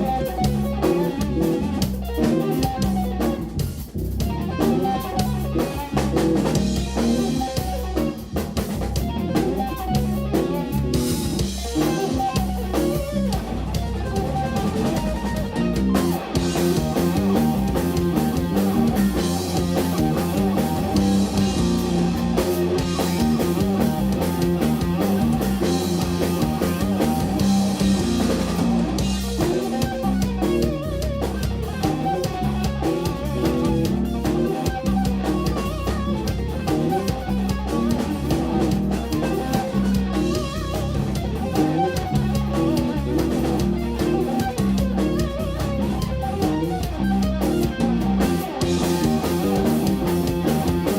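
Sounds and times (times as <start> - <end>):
bass guitar: 0.0 - 50.9
drum kit: 0.0 - 50.9
electric guitar lines: 0.0 - 50.9.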